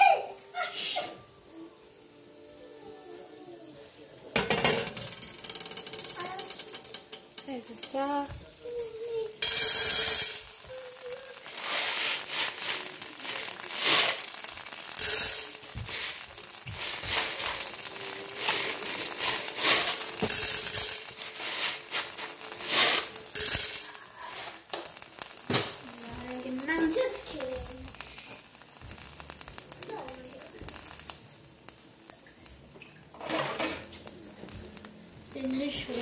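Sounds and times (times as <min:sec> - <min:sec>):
kernels poured into frying pan: 0:04.2 - 0:36.0
kernels clicking and rattling in pan: 0:04.3 - 0:36.0.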